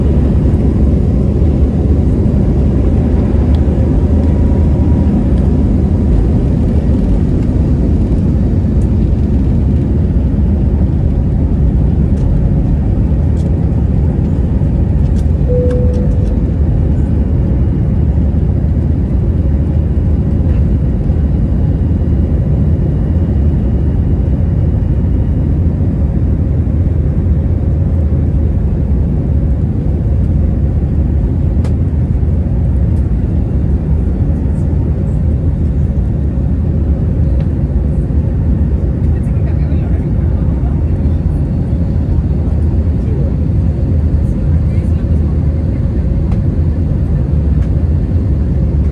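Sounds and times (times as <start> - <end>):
jet engine rumble in cabin: 0.0 - 48.9.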